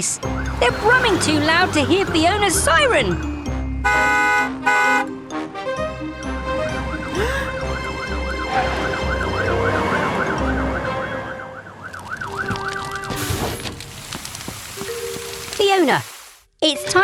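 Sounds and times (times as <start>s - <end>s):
truck engines brumming: 0.0s - 14.4s.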